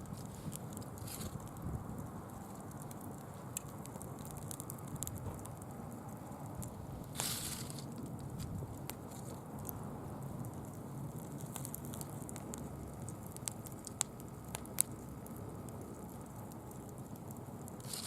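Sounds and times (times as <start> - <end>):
bonfire crackling and snapping: 0.0 - 18.0.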